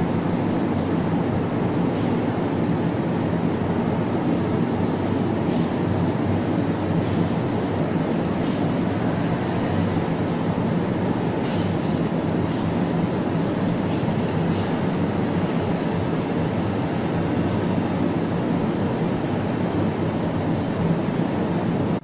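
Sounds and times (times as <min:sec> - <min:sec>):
low rumble of approaching train: 0:00.0 - 0:22.0.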